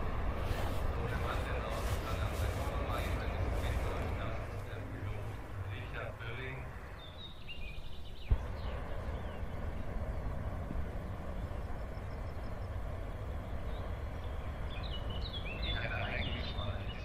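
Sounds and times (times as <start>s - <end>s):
birds chirping: 0.0s - 17.0s
low rumble: 0.0s - 17.0s.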